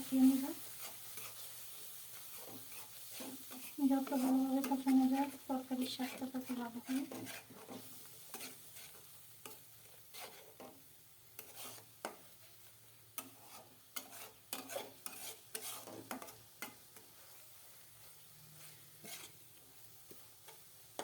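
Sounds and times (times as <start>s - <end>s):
faint sizzling: 0.0s - 21.0s
spoon scraping a pan: 0.0s - 21.0s.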